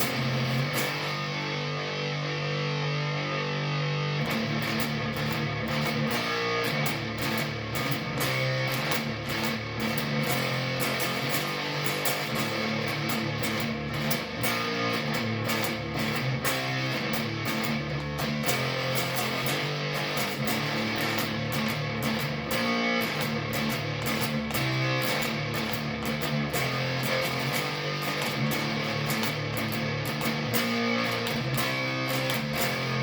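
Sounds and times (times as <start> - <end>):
fuzz electric guitar chords strummed: 0.0 - 33.0.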